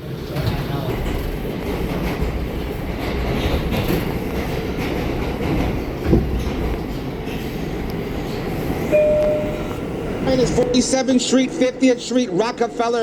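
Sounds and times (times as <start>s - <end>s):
subway car wheels rumbling: 0.0s - 13.0s.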